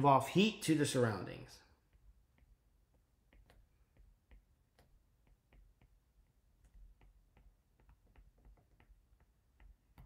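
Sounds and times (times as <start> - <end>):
stylus tapping on glass screen: 1.8 - 10.0.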